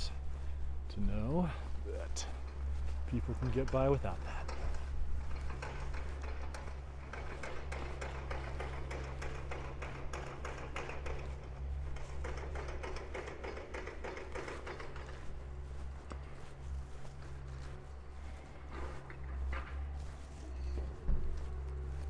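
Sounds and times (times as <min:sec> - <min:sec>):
footsteps tapping: 0:00.0 - 0:22.0.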